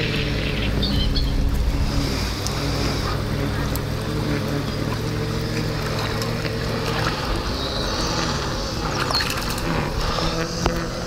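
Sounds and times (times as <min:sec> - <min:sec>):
fish splashing at water surface: 0:00.0 - 0:10.8
steady low hum: 0:00.0 - 0:11.0.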